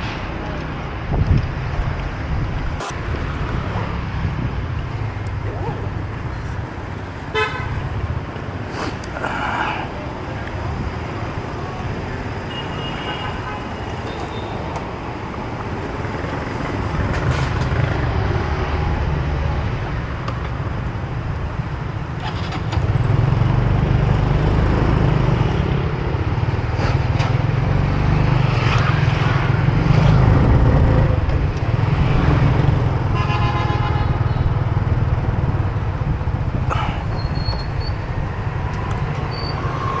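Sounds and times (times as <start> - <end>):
road noise: 0.0 - 40.0.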